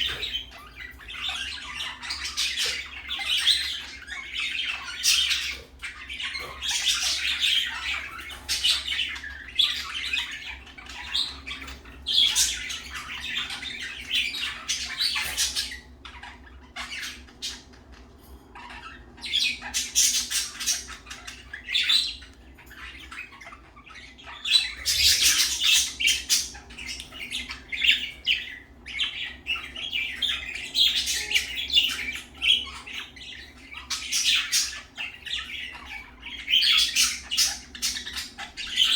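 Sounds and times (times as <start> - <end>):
budgerigars chattering and squawking: 0.0 - 38.9
faint steady hum: 0.0 - 38.9.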